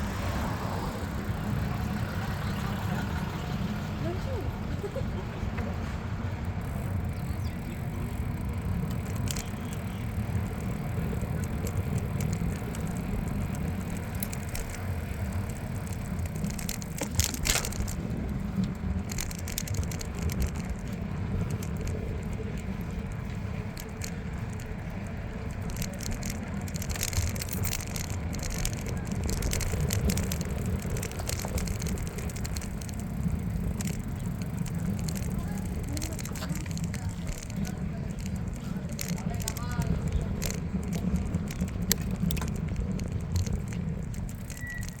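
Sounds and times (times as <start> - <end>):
bicycle clicks and rattles: 0.0 - 45.0.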